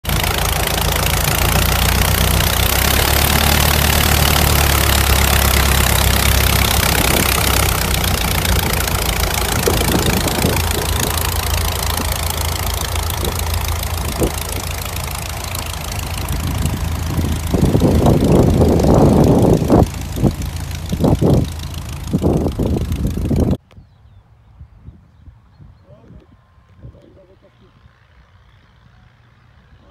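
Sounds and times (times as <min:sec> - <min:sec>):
plane engine droning: 0:00.0 - 0:23.6, 0:26.1 - 0:29.9
wind buffeting microphone: 0:02.4 - 0:28.0.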